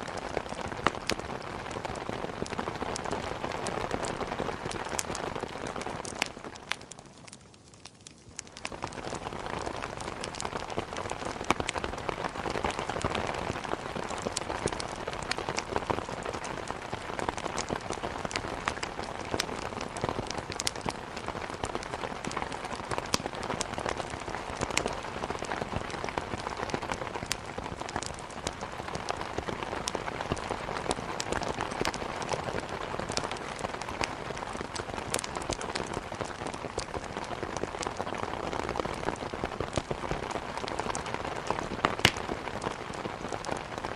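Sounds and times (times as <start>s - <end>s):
heavy rain: 0.0s - 7.2s, 8.5s - 43.9s
wood fire crackling: 0.0s - 43.9s.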